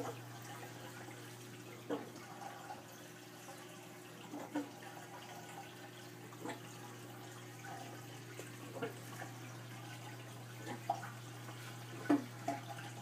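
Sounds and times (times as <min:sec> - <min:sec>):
water trickling and gurgling: 0:00.0 - 0:13.0.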